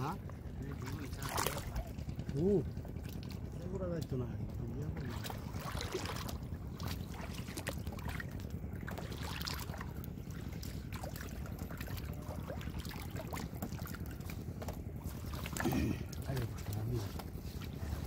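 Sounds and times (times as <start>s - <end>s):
muddy water splashing: 0.0s - 18.0s.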